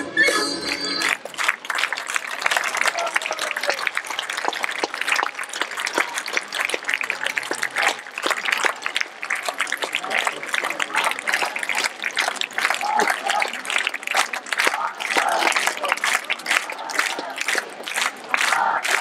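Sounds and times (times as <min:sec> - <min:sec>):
crowd voices: 0:00.0 - 0:19.0
audience applauding: 0:00.7 - 0:19.0.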